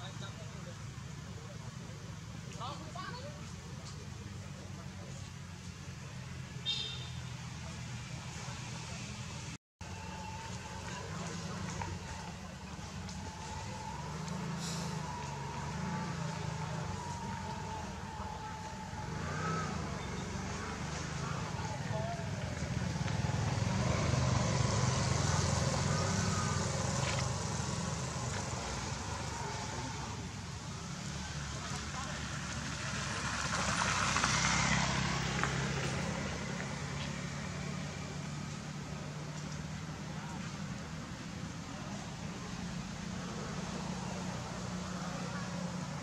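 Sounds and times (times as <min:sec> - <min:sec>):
road noise: 0:00.0 - 0:46.0
vehicle engine hum: 0:07.4 - 0:46.0.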